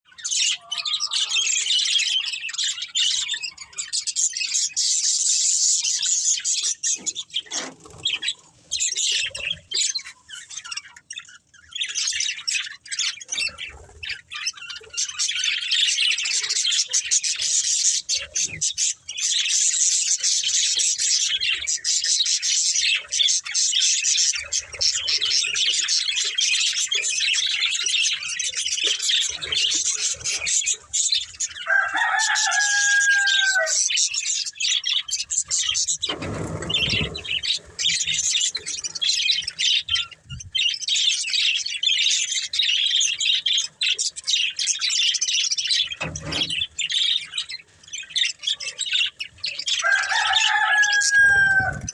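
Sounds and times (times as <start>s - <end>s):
budgerigars chirping and chattering: 0.1s - 51.9s.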